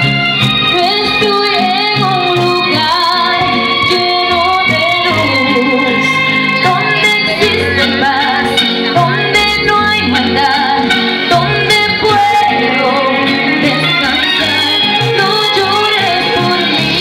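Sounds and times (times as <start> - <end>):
instrumental accompaniment: 0.0 - 17.0
woman singing: 0.6 - 17.0.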